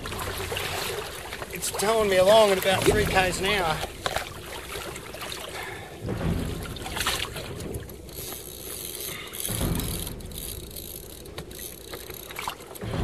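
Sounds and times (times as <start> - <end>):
water sloshing against kayak hull: 0.0 - 13.0.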